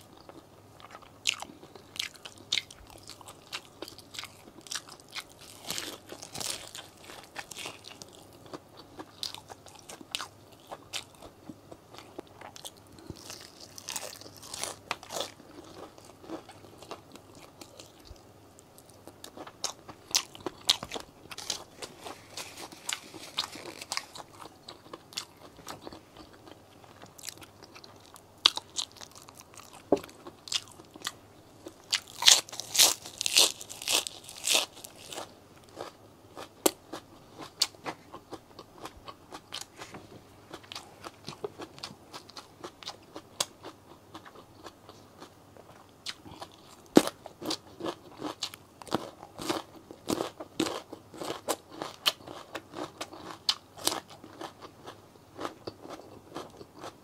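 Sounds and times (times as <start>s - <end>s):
crunchy chewing of food: 0.0s - 57.0s.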